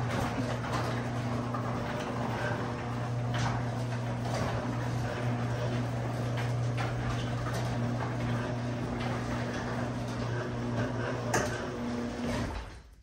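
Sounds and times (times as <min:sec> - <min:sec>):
garage door clicks and rattles: 0:00.0 - 0:13.0
garage door motor hum: 0:00.0 - 0:13.0.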